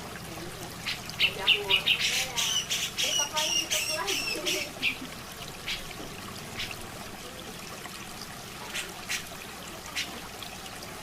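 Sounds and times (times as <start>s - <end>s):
trickling running water: 0.0s - 11.0s.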